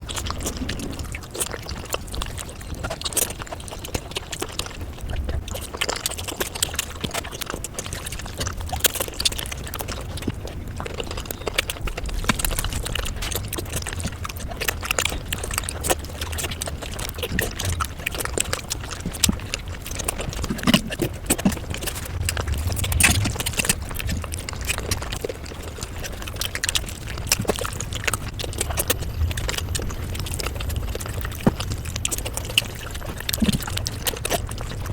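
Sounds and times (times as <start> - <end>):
chewing and mouth sounds: 0.0 - 34.9
small clicks and crackles: 0.0 - 34.9.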